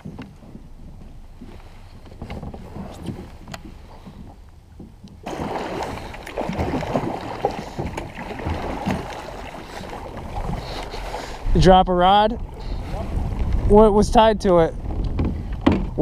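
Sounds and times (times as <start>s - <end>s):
low steady water rush: 0.0s - 16.0s
water splashing against kayak hull: 0.0s - 16.0s.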